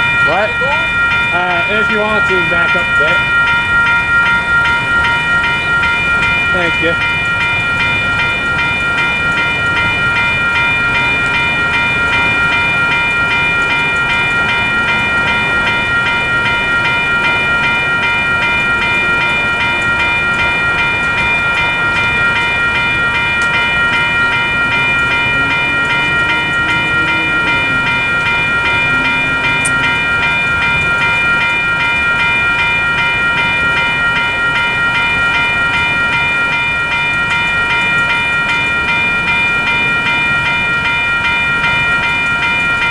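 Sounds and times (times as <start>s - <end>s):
electronic crossing bell dinging: 0.0s - 42.9s.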